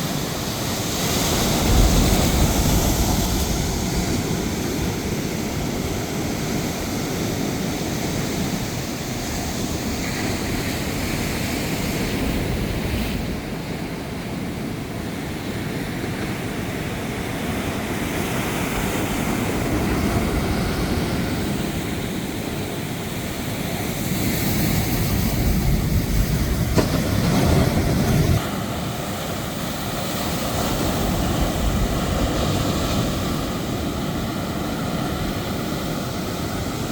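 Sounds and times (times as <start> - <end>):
rough surf: 0.0 - 36.9
strong wind: 0.0 - 36.9.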